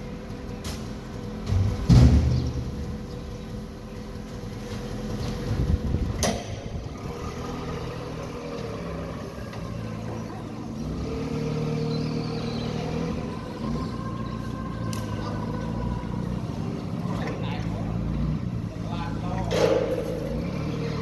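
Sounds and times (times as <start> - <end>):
forklift engine running: 0.0 - 21.0.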